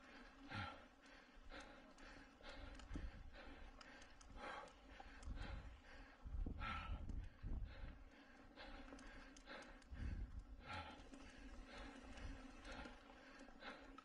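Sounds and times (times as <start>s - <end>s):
hard rhythmic breathing: 0.0s - 14.0s
trail and wind rumble: 0.0s - 14.0s.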